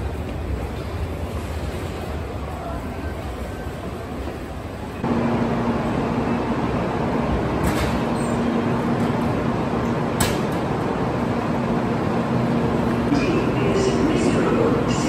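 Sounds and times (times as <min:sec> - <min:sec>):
platform rumble with low hum: 0:00.0 - 0:15.0
station concourse din: 0:00.0 - 0:15.0.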